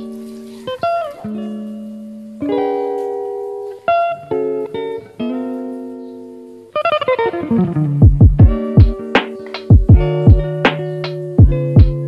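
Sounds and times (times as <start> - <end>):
guitar chords plucked slowly: 0.0 - 12.0.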